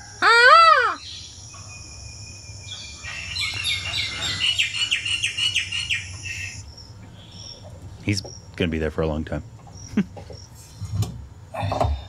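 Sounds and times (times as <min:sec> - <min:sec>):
bird chirping: 0:00.9 - 0:11.0.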